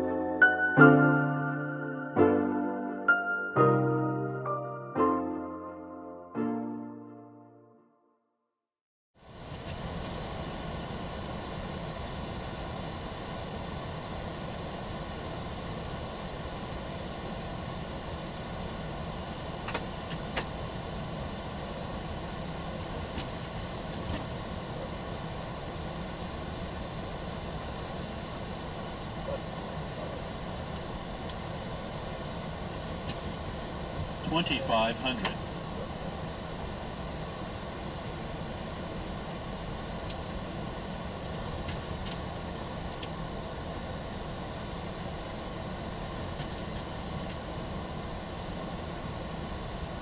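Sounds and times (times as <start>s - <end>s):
aircraft engine hum: 9.2s - 50.0s.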